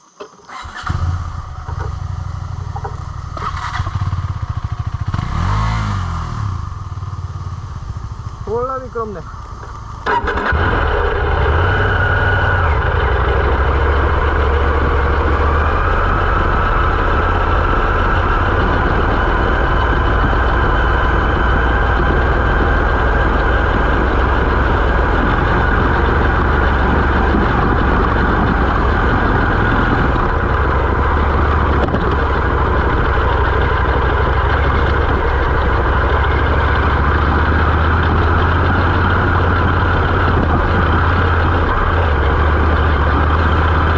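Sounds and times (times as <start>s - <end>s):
motorcycle engine running: 0.5s - 43.9s.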